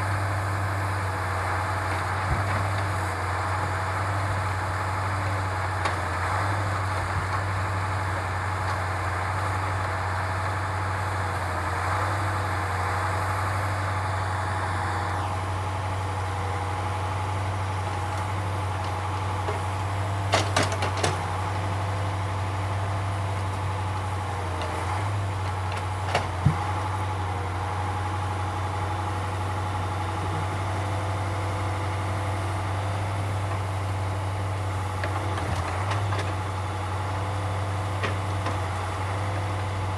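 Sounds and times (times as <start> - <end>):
hydraulic crane engine and pump running: 0.0 - 39.9.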